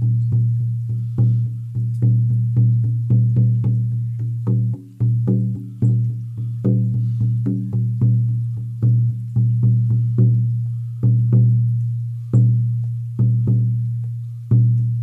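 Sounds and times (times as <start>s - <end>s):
frame drum booming: 0.0s - 15.0s.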